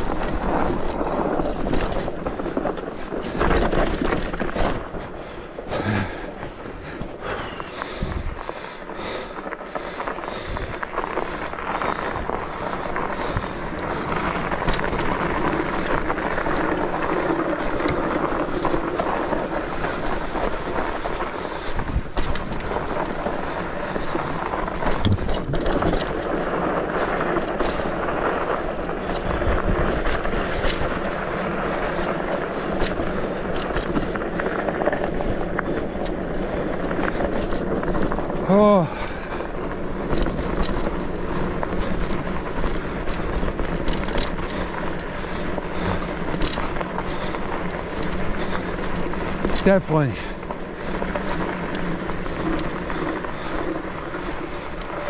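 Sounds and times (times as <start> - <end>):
bike rattling over bumps: 0.0 - 55.0
bike tyres rushing on snow: 0.0 - 55.0.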